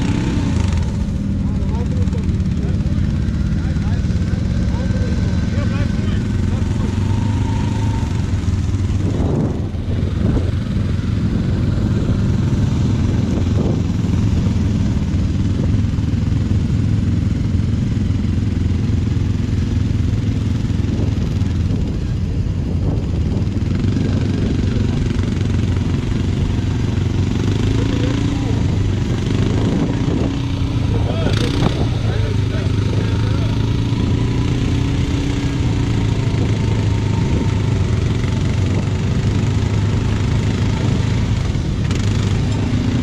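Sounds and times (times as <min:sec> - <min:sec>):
quad engine idling: 0:00.0 - 0:43.0.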